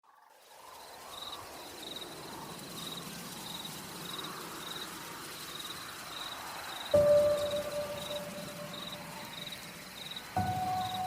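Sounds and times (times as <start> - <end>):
outdoor ambience hiss: 0.0 - 11.0
insect chirping in high trills: 0.1 - 11.0.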